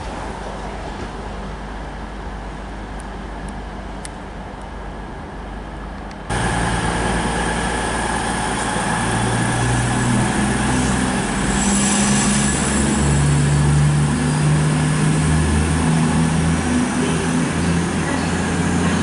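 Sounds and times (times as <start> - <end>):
diesel train engines humming: 0.0 - 19.0.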